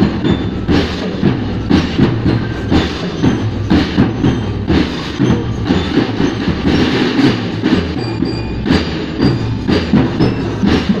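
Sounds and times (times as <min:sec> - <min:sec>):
snare drums playing: 0:00.0 - 0:11.0.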